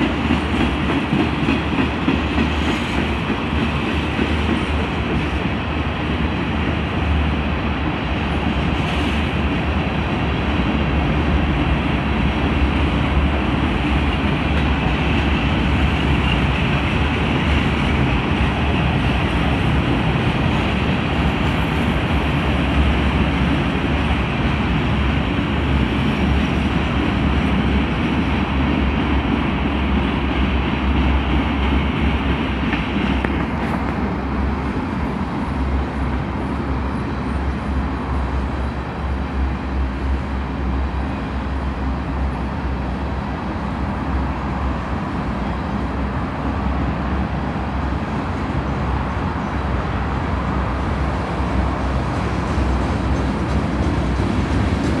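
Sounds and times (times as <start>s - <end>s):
freight cars rumbling on rails: 0.0s - 55.0s.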